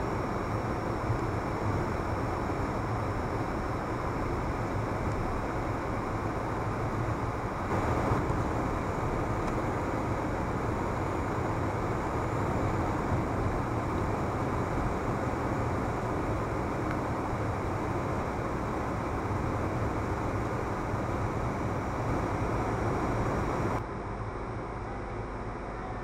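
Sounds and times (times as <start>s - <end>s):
tyres rumbling on asphalt: 0.0s - 24.0s
car engine: 0.0s - 25.8s.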